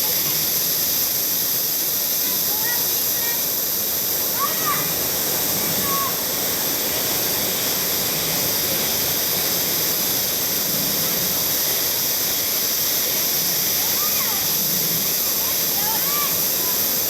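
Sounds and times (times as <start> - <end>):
water rushing over waterfall: 0.1 - 17.0.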